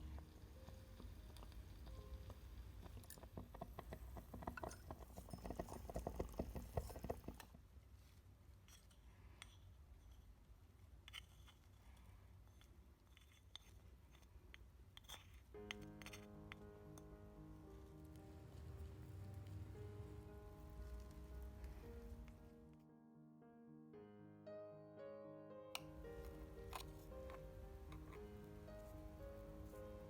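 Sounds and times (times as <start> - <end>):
tiny utensils clicking and scraping: 0.0 - 22.5, 25.8 - 30.0.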